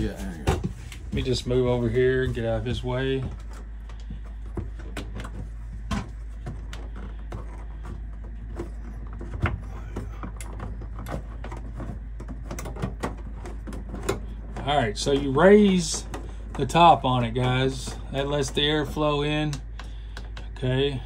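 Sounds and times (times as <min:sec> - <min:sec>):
vent crank clicks and knocks: 0:00.0 - 0:21.0.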